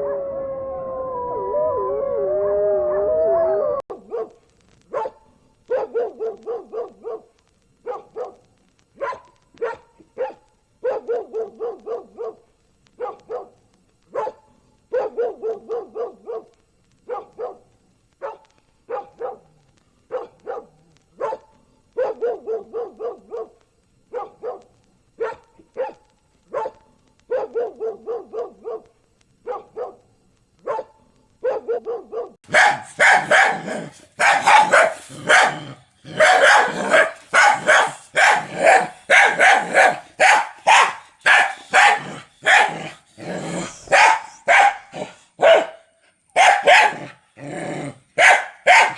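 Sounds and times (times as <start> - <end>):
dog barking: 3.9 - 8.4, 9.0 - 12.4, 13.0 - 19.5, 20.1 - 30.0, 30.6 - 43.0, 43.7 - 47.2, 48.2 - 48.9.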